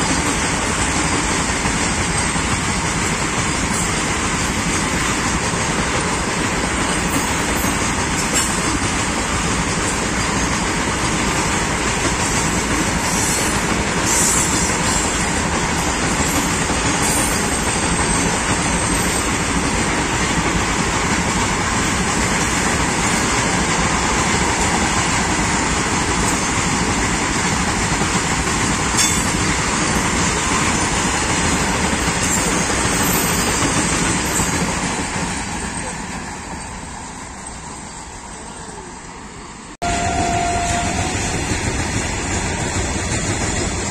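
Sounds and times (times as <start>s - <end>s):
freight wagon wheels on rail: 0.0s - 43.9s.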